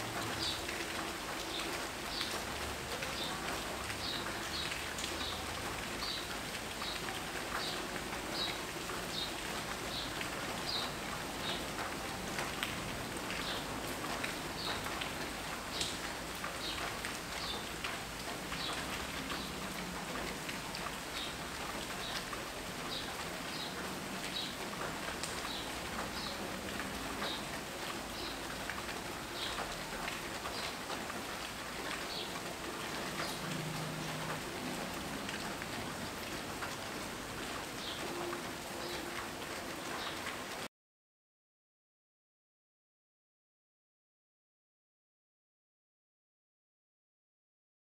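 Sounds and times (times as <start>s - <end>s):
steady rain patter: 0.0s - 40.7s.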